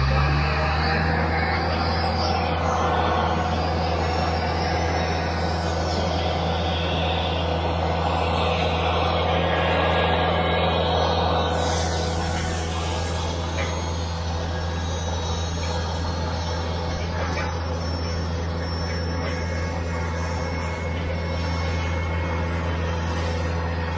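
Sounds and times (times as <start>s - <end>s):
machinery engine drone: 0.0s - 23.9s.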